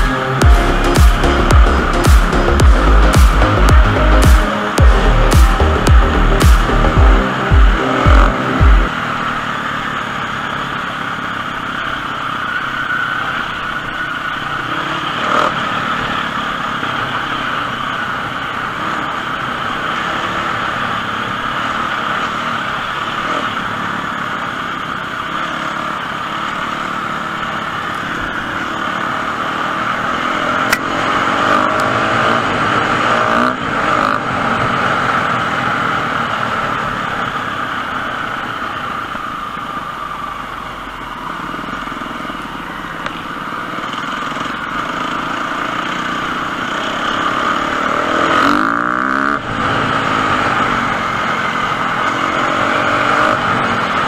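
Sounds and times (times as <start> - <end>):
motorcycle engine running: 0.0 - 54.0
riding noise: 0.0 - 54.0.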